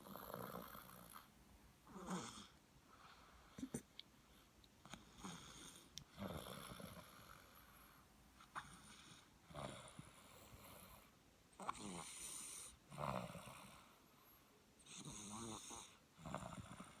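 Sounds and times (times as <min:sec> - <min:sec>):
soft snoring: 0:00.0 - 0:17.0.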